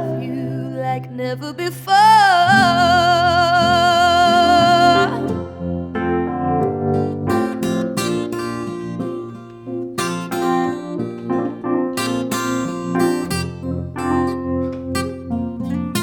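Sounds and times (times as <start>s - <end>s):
keyboard accompaniment: 0.0s - 1.4s, 2.4s - 16.0s
acoustic guitar strumming: 0.0s - 16.0s.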